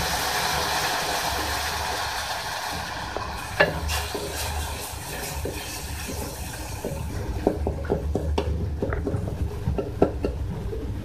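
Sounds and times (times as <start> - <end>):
water sizzling in hot pan: 0.0 - 10.5.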